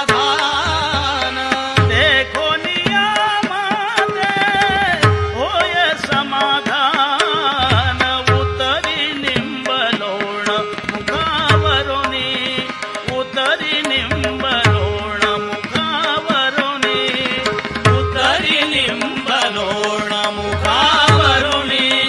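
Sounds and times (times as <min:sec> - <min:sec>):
tabla rhythm: 0:00.0 - 0:22.0.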